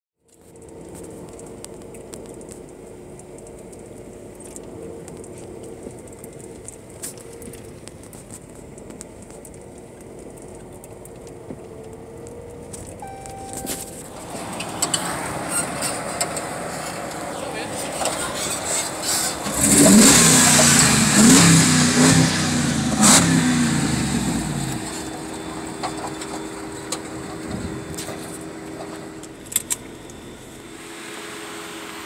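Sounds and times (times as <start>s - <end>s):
engine and tyre drone: 0.3s - 32.0s.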